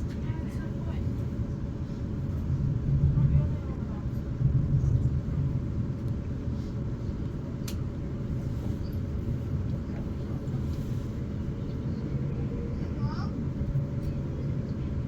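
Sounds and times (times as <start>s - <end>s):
train running low rumble: 0.0s - 15.0s.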